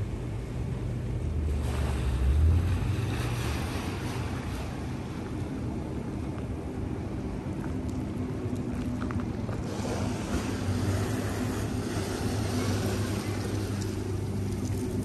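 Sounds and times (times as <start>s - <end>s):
boat engine running: 0.0s - 15.0s
water noise: 0.0s - 15.0s.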